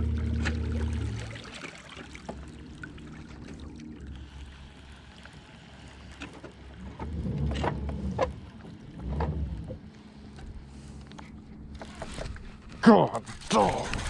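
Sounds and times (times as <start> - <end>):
electric boat motor humming: 0.0 - 12.7.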